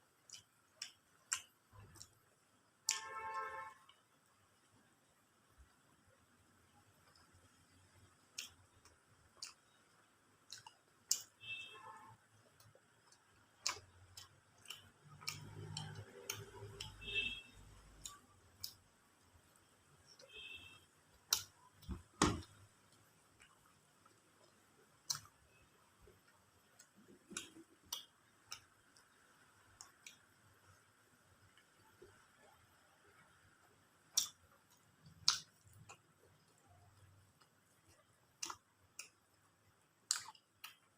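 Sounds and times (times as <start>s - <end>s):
person chewing food: 0.1s - 4.7s, 6.8s - 11.4s, 12.1s - 20.3s, 21.0s - 40.9s.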